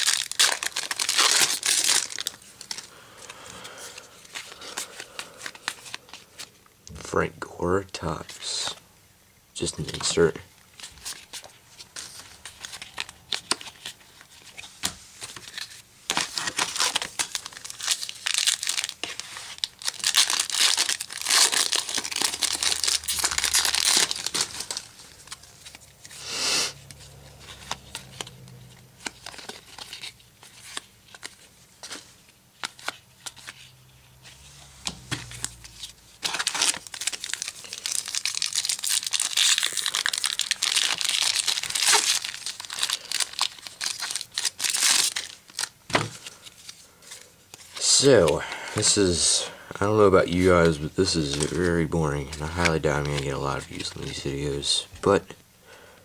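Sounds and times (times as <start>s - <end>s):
foil wrappers crinkling and tearing: 0.0s - 6.5s, 10.8s - 26.2s, 26.9s - 33.7s, 35.2s - 55.3s.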